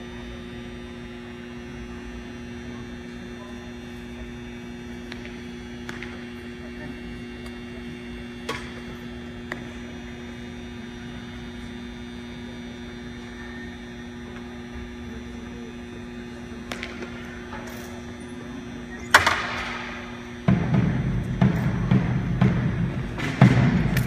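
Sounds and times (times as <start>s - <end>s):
low machinery hum: 0.0s - 24.0s.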